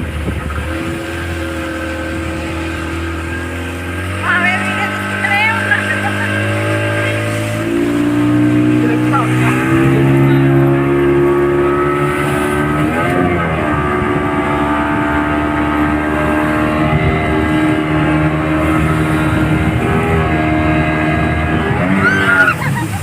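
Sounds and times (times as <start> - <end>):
motorboat engine running: 0.0 - 23.0.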